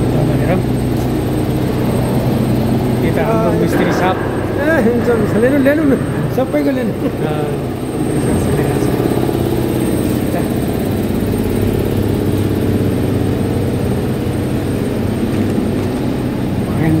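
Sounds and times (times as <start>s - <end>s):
machinery droning: 0.0s - 17.0s.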